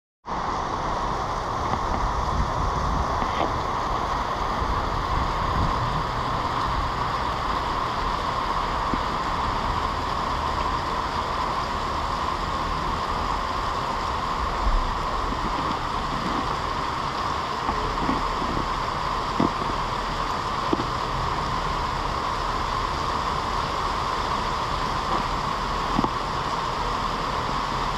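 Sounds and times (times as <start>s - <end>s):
steady rain on pavement: 0.2s - 27.9s.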